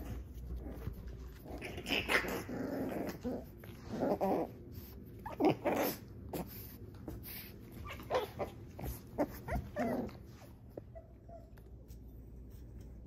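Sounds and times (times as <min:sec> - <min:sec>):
puppies growling and yipping: 0:00.0 - 0:11.8.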